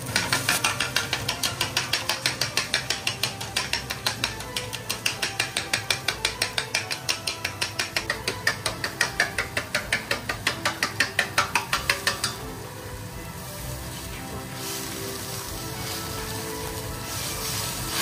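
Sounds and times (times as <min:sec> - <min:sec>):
chopsticks beating eggs in metal bowl: 0:00.0 - 0:18.0.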